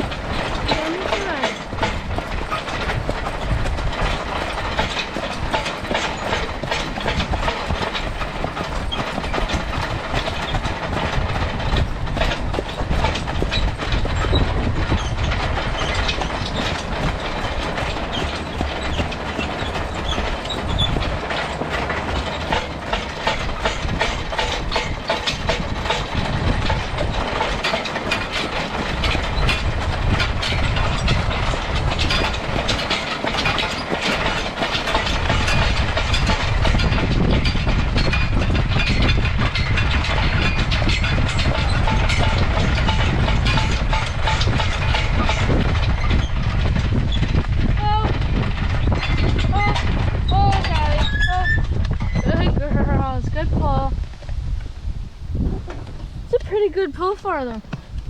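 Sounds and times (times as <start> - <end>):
steel track clattering on road: 0.0 - 58.0.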